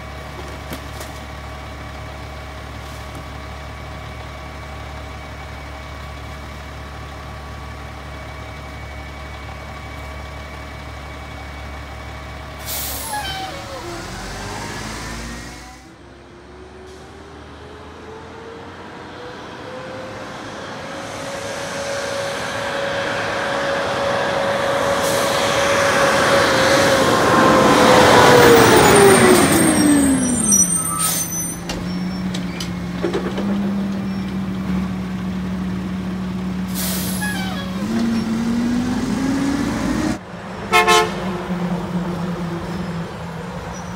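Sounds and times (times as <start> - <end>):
diesel truck engine revving: 1.3 - 43.9.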